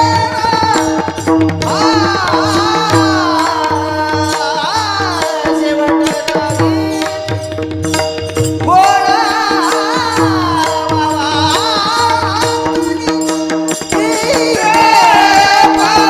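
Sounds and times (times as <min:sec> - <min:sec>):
man singing: 0:00.0 - 0:07.7, 0:08.6 - 0:16.0
hand drum: 0:00.0 - 0:16.0.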